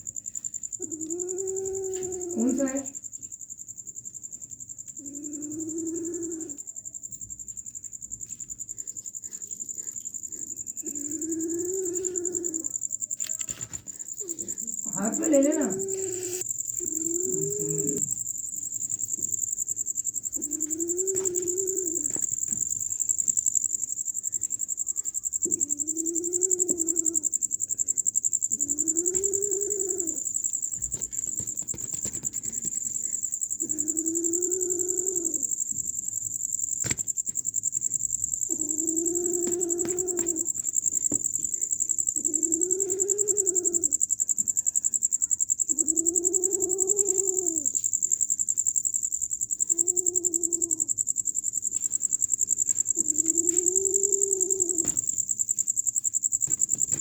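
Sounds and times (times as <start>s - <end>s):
crickets droning: 0.0s - 57.0s.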